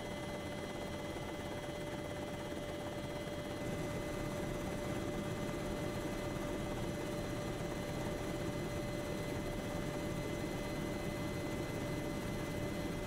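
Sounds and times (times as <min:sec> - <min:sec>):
constant whine: 0:00.0 - 0:13.0
aircraft engine drone: 0:00.7 - 0:13.0.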